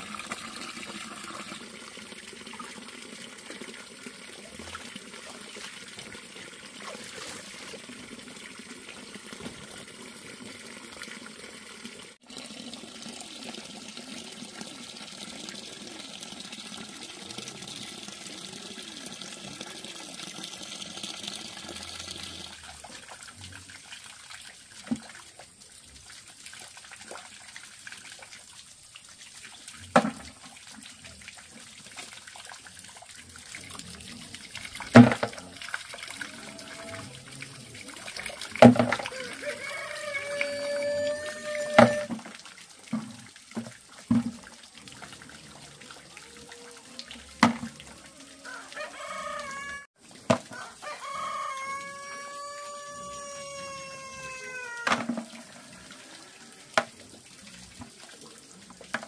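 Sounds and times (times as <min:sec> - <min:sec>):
water running and trickling: 0:00.0 - 0:59.0.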